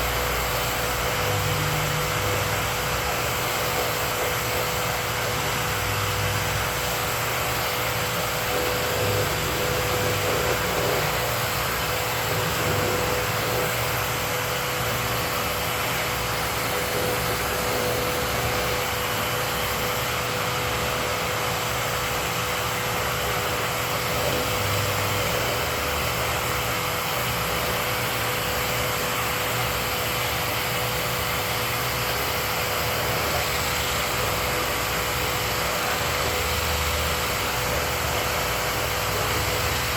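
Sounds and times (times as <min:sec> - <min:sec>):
dust-collection vacuum running: 0:00.0 - 0:39.9.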